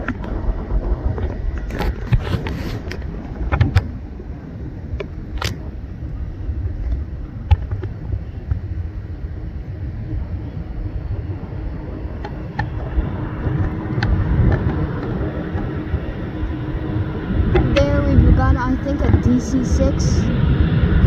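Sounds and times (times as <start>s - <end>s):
distant jet aircraft rumble: 0.0s - 21.0s.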